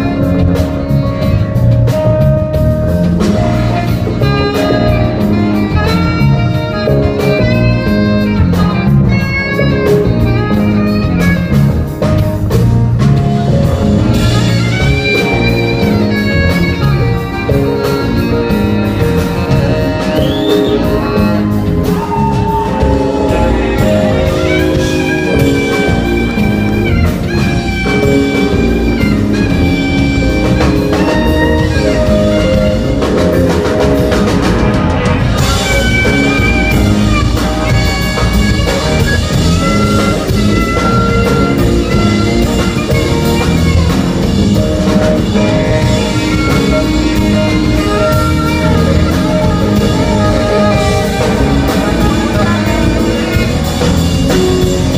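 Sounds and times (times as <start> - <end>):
bass groove: 0.0 - 54.9
drums: 0.0 - 54.9
lead instrument holding long notes: 0.0 - 54.9.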